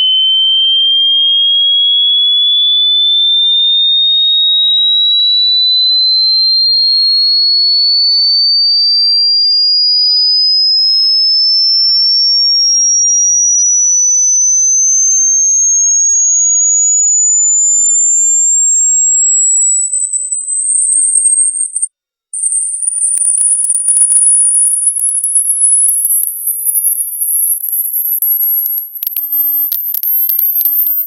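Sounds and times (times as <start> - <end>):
rising sine tone whistle: 0.0 - 31.0.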